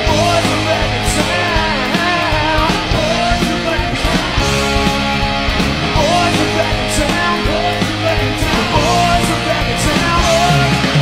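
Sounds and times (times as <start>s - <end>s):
person singing: 0.0s - 11.0s
rock music with guitar: 0.0s - 11.0s.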